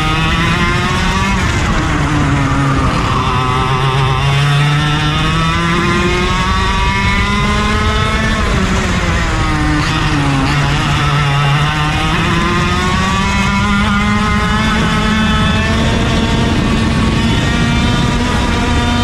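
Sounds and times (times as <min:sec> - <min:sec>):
kart engine revving: 0:00.0 - 0:19.0.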